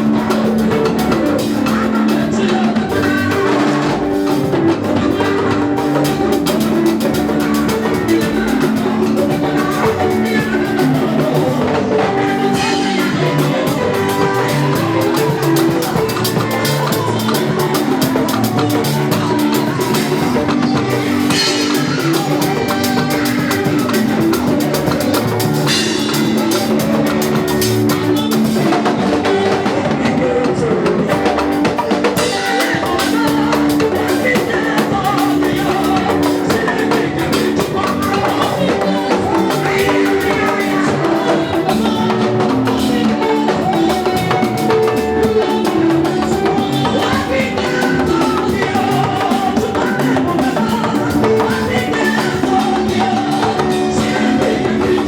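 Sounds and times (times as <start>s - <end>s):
drum kit beat: 0.0s - 55.0s
worship band music: 0.0s - 55.0s.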